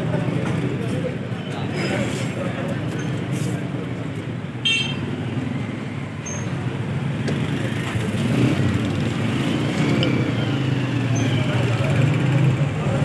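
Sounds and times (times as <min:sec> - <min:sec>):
road traffic engine rumble: 0:00.0 - 0:13.0.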